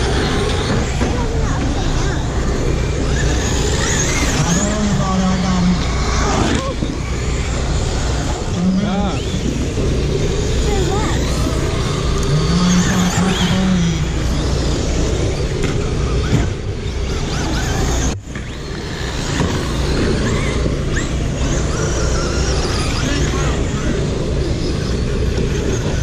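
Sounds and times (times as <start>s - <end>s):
rc car motors whining: 0.0s - 26.0s
steady noisy hum: 0.0s - 26.0s.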